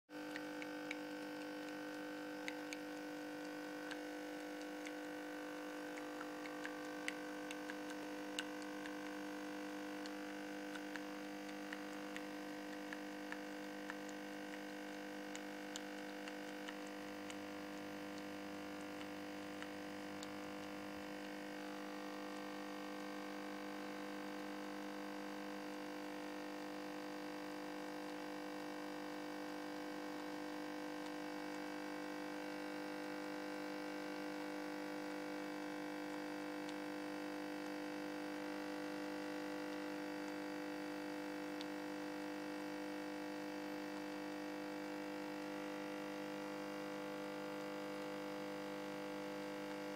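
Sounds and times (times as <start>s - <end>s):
coffee machine pump humming: 0.1s - 49.9s.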